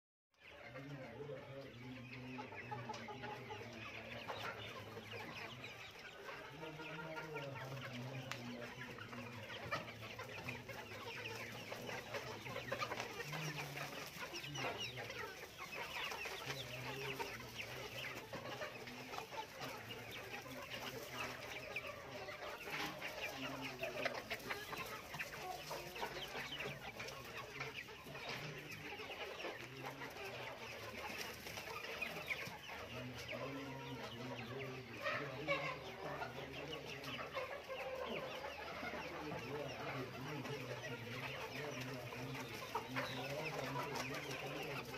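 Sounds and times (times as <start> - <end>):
chickens clucking: 0.3 - 44.9.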